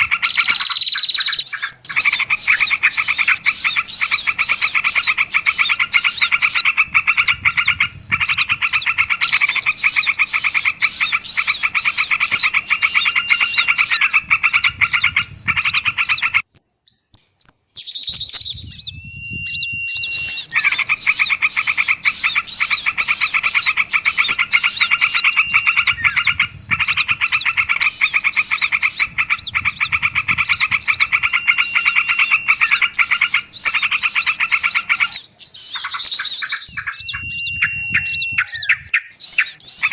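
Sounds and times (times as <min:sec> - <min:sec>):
held whistle: 0:00.0 - 0:16.4, 0:18.0 - 0:39.9
songbirds chirping: 0:00.0 - 0:39.9.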